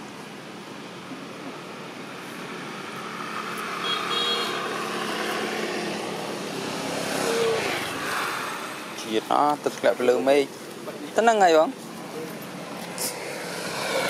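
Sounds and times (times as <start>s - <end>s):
motor vehicle passing: 1.5s - 10.8s, 11.8s - 14.0s.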